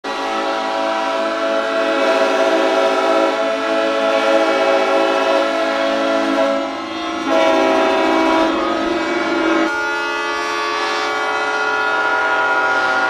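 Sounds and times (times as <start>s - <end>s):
ship horns blasting: 0.0s - 13.0s.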